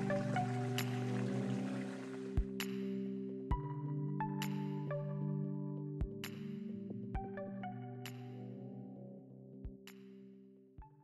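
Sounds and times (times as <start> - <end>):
background music with held notes: 0.0 - 10.1.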